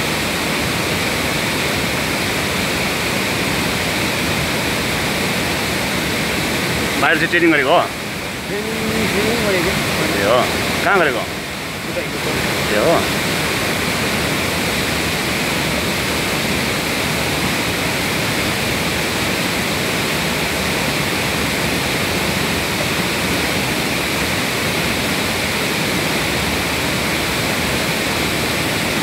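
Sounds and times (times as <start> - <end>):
waterfall and river rapids: 0.0 - 29.0.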